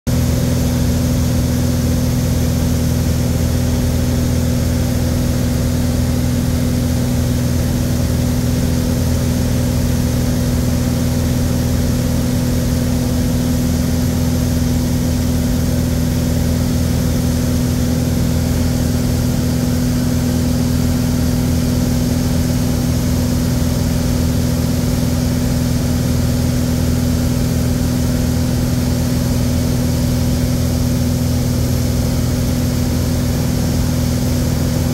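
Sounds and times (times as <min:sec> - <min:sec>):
light plane engine drone in cabin: 0:00.1 - 0:34.9.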